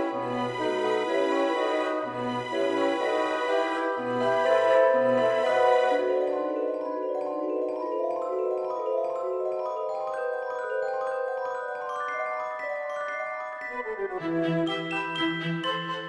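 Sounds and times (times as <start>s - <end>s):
gentle mallet instrument melody: 0.0s - 14.0s, 14.6s - 16.0s.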